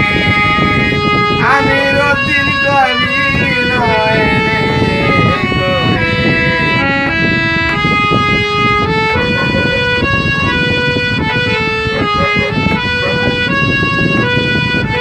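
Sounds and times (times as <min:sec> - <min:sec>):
harmonium melody: 0:00.0 - 0:15.0.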